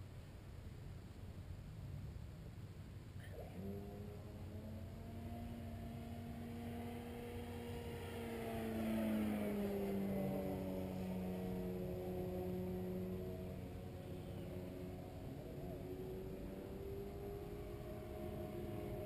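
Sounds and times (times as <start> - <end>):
model plane propeller buzzing: 3.3 - 19.0.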